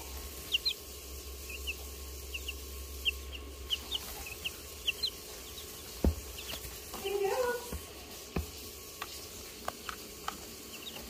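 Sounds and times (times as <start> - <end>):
chicks peeping: 0.0 - 11.0
low steady hum: 0.0 - 11.0.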